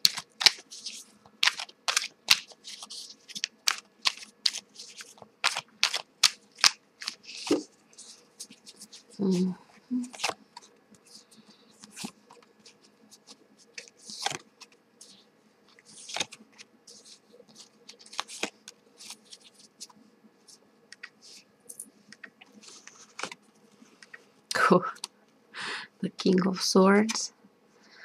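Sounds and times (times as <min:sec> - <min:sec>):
cards shuffled by hand: 0:00.0 - 0:21.5, 0:22.1 - 0:23.4.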